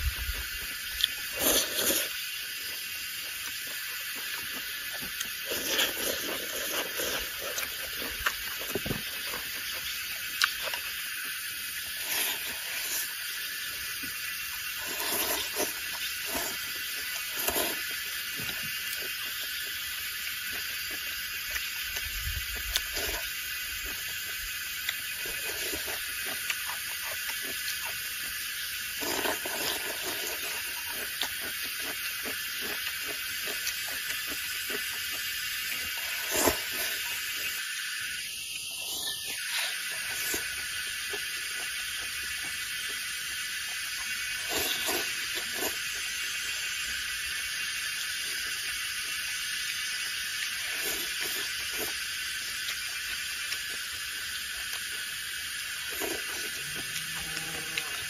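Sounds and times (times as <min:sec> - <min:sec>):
chewing and slurping: 0:00.0 - 0:58.0
steady high hiss: 0:00.0 - 0:58.0.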